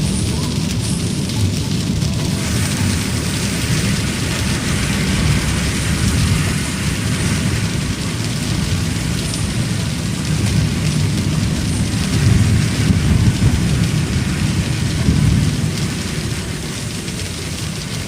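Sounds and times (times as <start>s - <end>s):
car rumbling on the road: 0.0s - 18.0s
heavy rain on a car: 0.0s - 18.0s.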